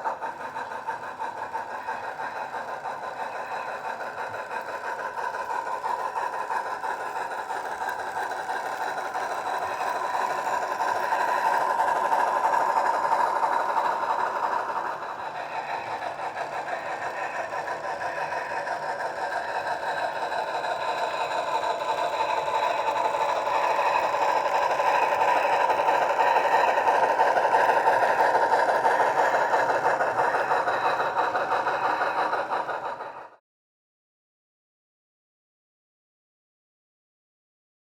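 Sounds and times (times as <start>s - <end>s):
model steam locomotive exhaust: 0.0s - 33.4s.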